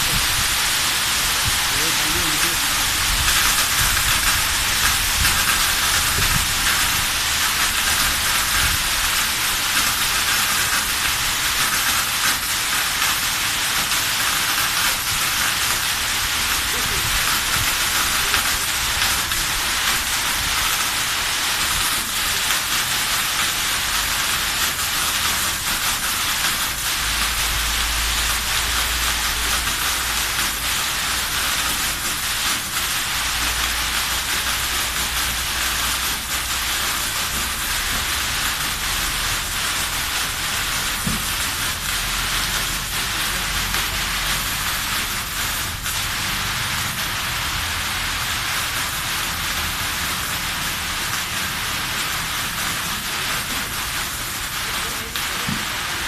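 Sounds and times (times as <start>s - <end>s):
sprinkler spraying water: 0.0s - 56.0s.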